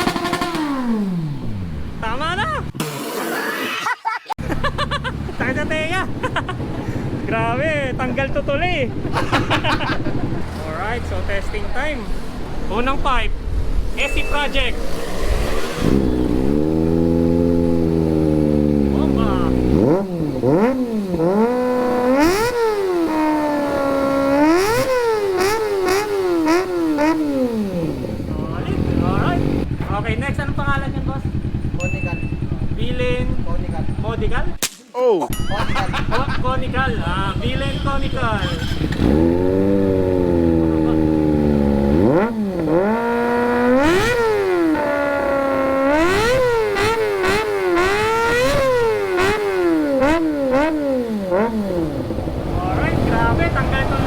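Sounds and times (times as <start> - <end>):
motorcycle engine revving: 0.0 - 3.8, 4.4 - 34.6, 35.8 - 54.0.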